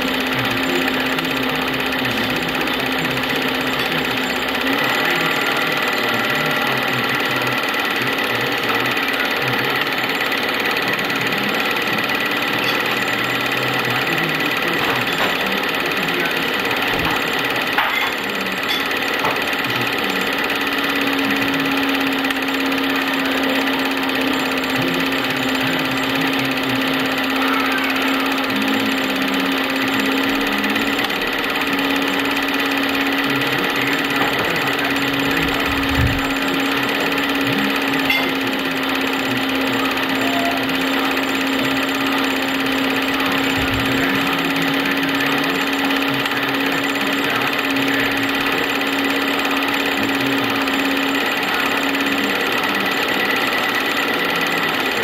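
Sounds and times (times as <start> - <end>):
film projector whirring: 0.0 - 55.0.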